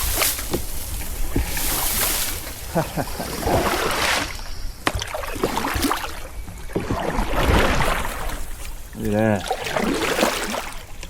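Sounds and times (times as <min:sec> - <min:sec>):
water sloshing against kayak hull: 0:00.0 - 0:11.0.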